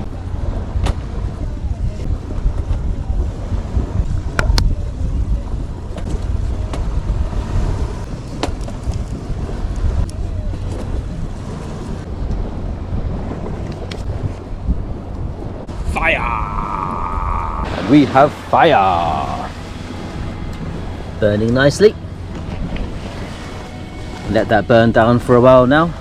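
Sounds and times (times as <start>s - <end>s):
surf: 0.0s - 26.0s
wind buffeting microphone: 0.0s - 26.0s.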